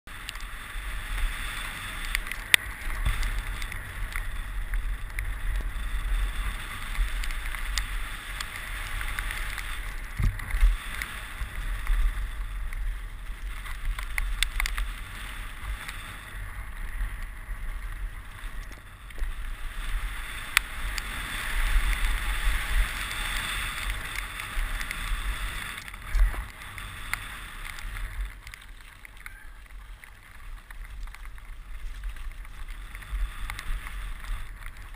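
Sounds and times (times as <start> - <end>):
bike knocking and rattling: 0.1 - 34.9
rush of wind: 0.1 - 34.9
tyres rolling over gravel: 0.1 - 34.9.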